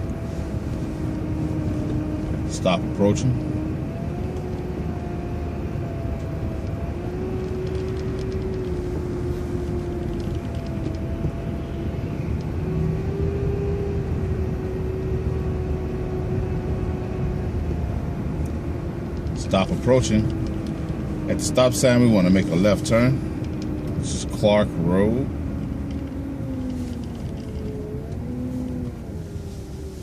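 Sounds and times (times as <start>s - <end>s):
bus engine and road rumble: 0.0s - 30.0s
drivetrain whine: 0.0s - 30.0s.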